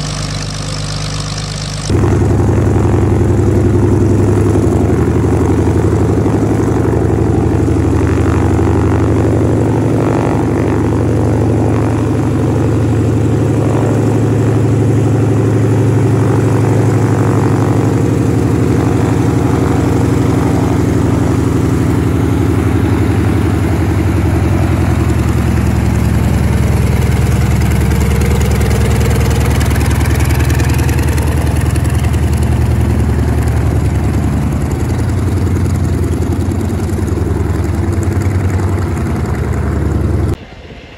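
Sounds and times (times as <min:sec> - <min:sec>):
radial aircraft engine running: 0:00.0 - 0:40.9.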